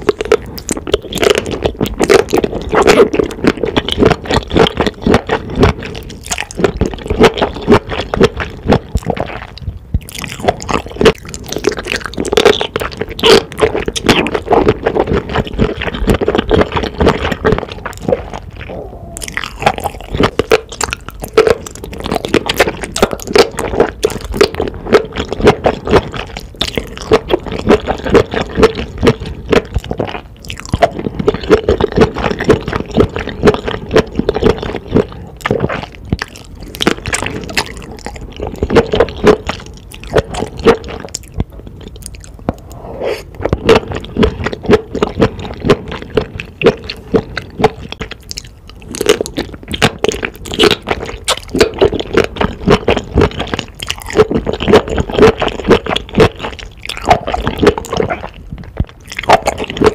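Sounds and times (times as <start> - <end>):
wet chewing and slurping: 0.0 - 59.9.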